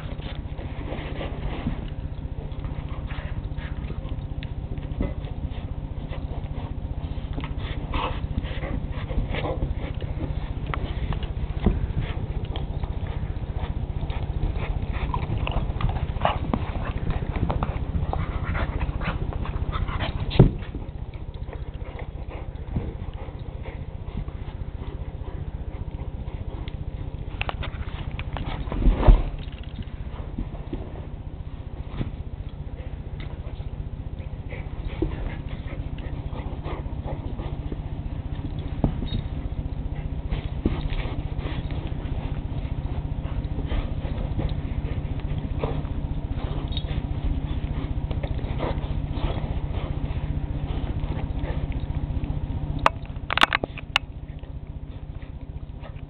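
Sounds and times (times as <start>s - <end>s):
dogs scuffling and chewing: 0.0s - 56.0s
steady low hum: 0.0s - 56.0s.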